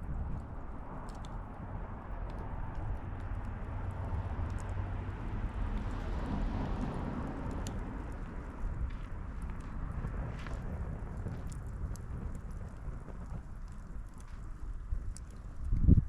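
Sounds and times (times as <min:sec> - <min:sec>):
firewood crackling and popping: 0:00.0 - 0:16.0
low steady fire rumble: 0:00.0 - 0:16.0.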